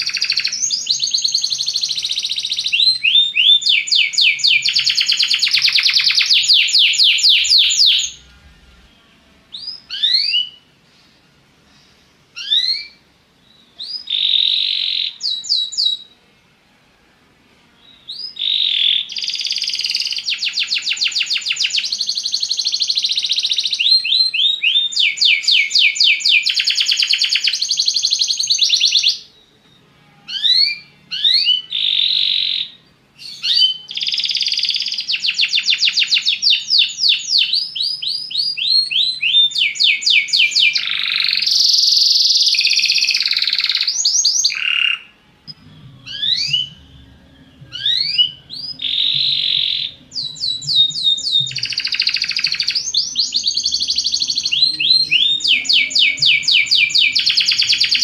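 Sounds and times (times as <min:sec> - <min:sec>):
canary singing trills: 0:00.0 - 0:10.7, 0:12.4 - 0:16.2, 0:17.8 - 0:58.0.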